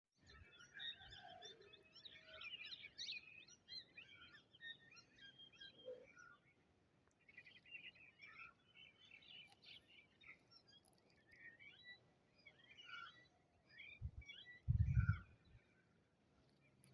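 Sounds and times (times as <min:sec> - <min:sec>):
small birds chirping: 0:00.2 - 0:16.9.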